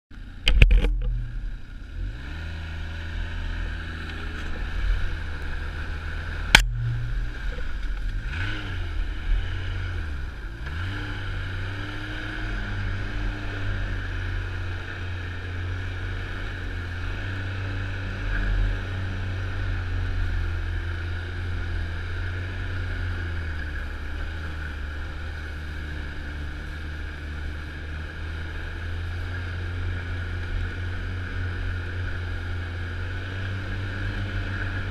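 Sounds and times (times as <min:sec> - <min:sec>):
snowmobile engine running: 0:00.2 - 0:34.9.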